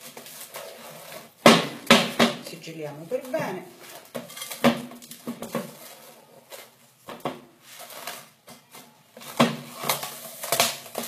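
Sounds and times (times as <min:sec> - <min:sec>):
cling film crinkling: 0:00.0 - 0:01.5, 0:03.1 - 0:07.0, 0:07.6 - 0:11.0.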